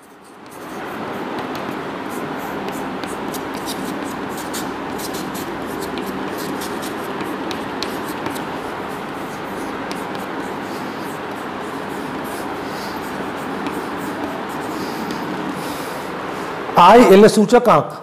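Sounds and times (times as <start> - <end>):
chalk writing on chalkboard: 0.0 - 16.2
steady background noise: 0.0 - 18.0.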